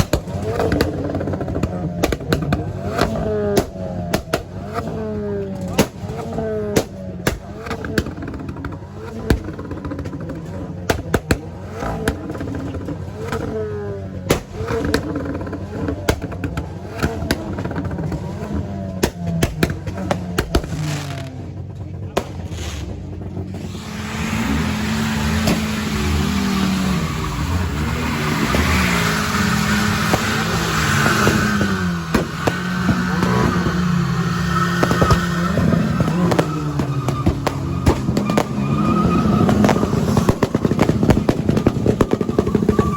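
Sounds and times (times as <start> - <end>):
sharp cracks: 0.0 - 13.6, 14.2 - 42.9
car engines revving: 0.0 - 42.9
noisy rush: 0.0 - 42.9.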